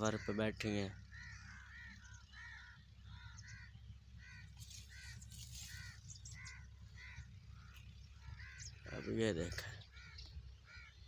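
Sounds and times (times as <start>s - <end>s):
bird calling harshly: 0.0s - 11.0s
low steady rumble: 0.0s - 11.0s.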